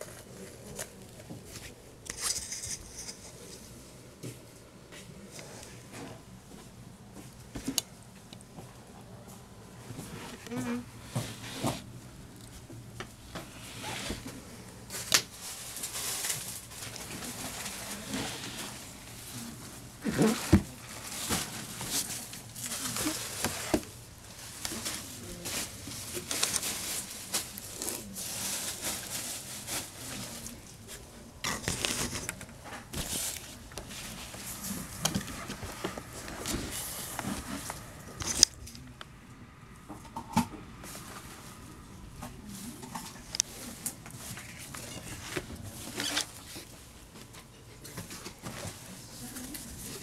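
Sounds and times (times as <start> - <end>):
handling rustling and scraping: 0.0 - 38.9, 39.9 - 50.0.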